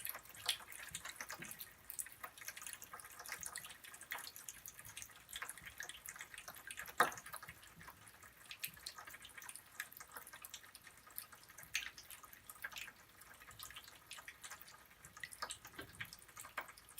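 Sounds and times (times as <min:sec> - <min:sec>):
bath crackles popping in water: 0:00.0 - 0:16.9.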